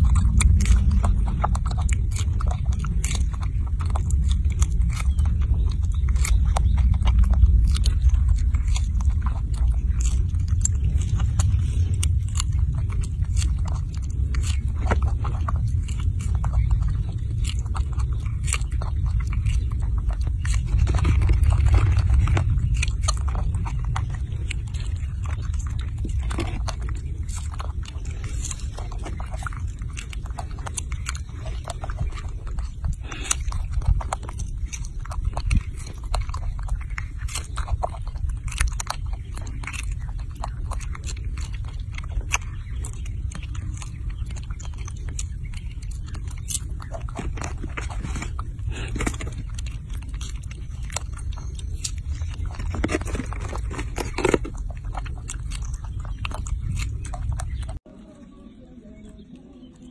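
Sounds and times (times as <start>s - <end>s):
low rumble: 0.0s - 59.9s
monkey biting and chewing: 0.0s - 59.9s.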